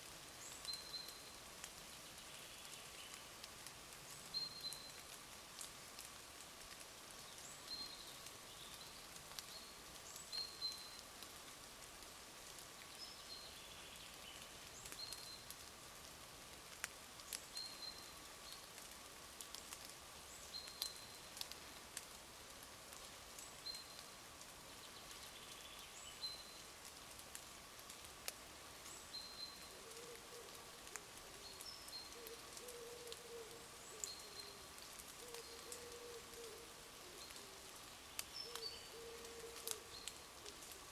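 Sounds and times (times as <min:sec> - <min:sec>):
raindrops ticking on leaves: 0:00.0 - 0:40.9.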